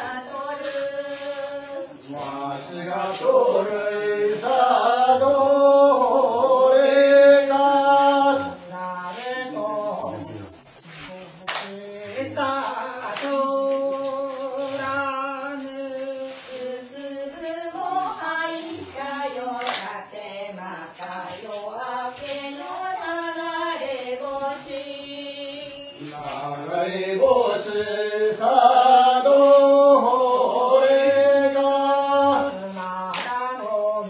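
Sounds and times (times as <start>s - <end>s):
voices chanting long held notes: 0.0s - 34.0s.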